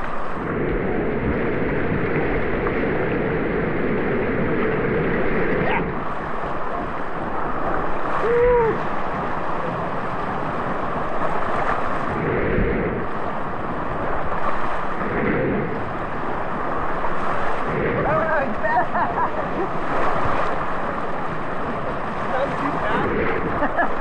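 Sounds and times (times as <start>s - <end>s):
rushing splashing water: 0.0s - 24.0s
wind noise on microphone: 0.0s - 24.0s.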